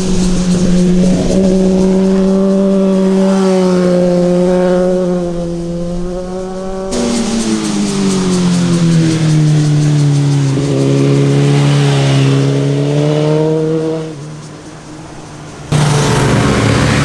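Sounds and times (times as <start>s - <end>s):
motorcycle engine revving high: 0.0s - 14.5s, 15.7s - 17.0s
motorcycle engine pitch falling: 0.1s - 14.5s.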